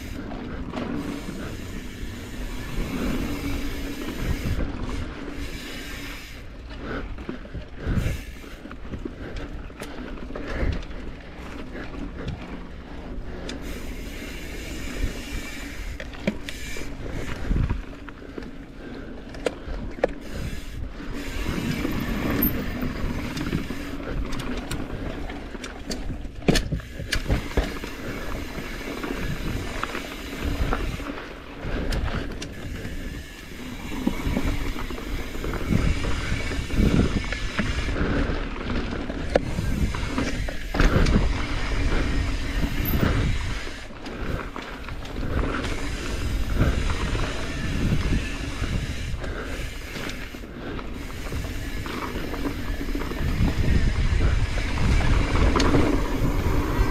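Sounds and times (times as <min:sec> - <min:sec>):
bike tyres and frame rattling: 0:00.0 - 0:56.9.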